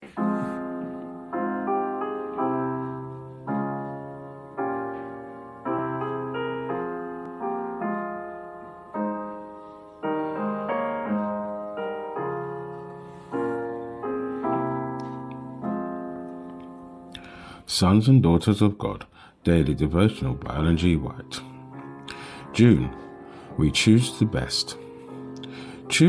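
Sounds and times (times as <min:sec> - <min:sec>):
gentle solo piano: 0:00.0 - 0:17.2, 0:21.1 - 0:26.0.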